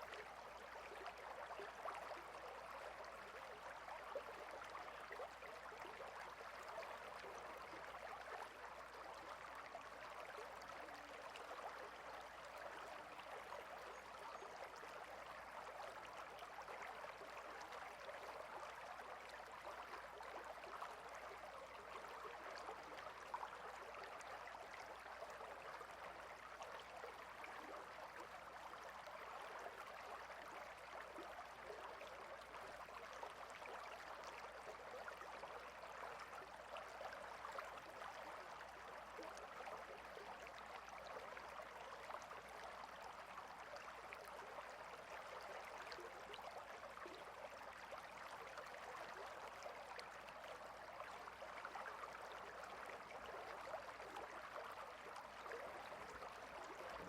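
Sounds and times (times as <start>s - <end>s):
small stream flowing: 0.0s - 57.0s.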